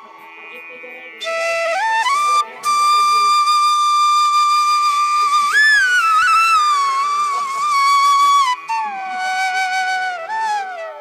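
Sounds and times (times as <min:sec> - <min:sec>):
steady drone: 0:00.0 - 0:11.0
wind instrument slow melody: 0:00.0 - 0:11.0.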